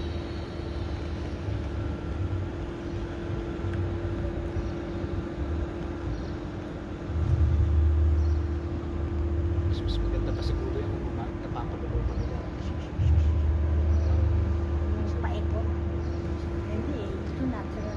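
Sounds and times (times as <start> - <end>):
constant hum: 0.0 - 17.9
low rumble: 0.0 - 17.9.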